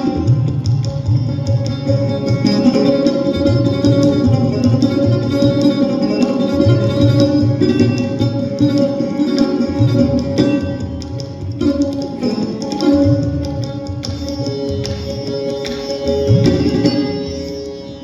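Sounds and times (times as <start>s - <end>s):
tabla deep bass pattern: 0.0s - 18.0s.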